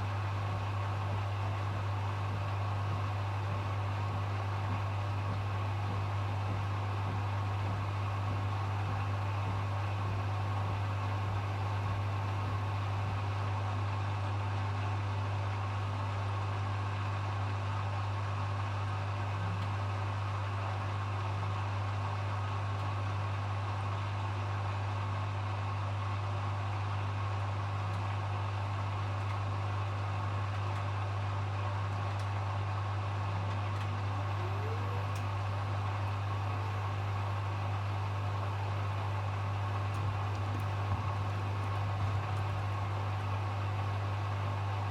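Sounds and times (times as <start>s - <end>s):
washing machine spinning hum: 0.0s - 44.9s.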